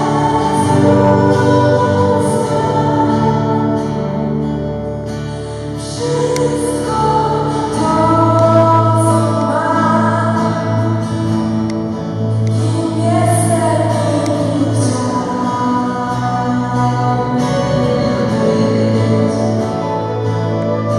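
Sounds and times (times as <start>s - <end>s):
woman singing: 0.0s - 4.4s, 5.6s - 11.4s, 12.4s - 20.9s
keyboard chords: 0.0s - 20.9s
strummed string instrument: 0.0s - 20.9s.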